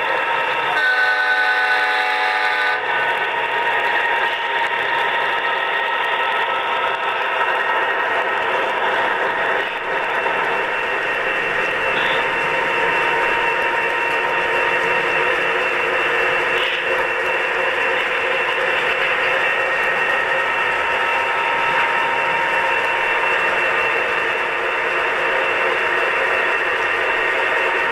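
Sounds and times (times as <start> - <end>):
model train hissing and whining: 0.0 - 27.9.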